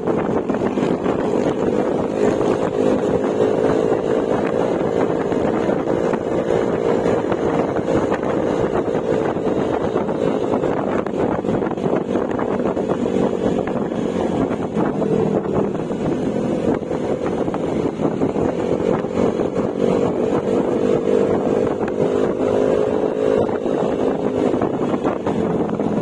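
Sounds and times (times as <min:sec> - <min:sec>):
scooter engine running: 0:00.0 - 0:26.0
wind rushing over microphone: 0:00.0 - 0:26.0.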